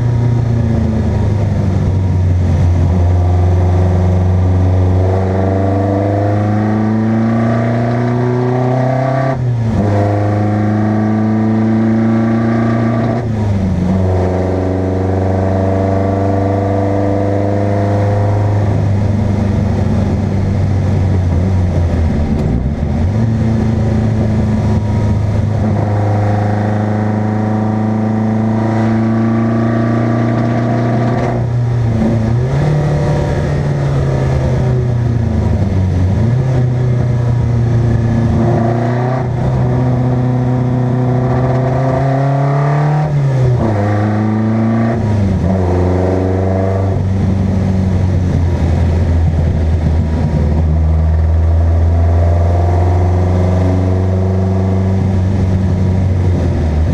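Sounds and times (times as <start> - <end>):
race car engine accelerating: 0.0 - 56.9.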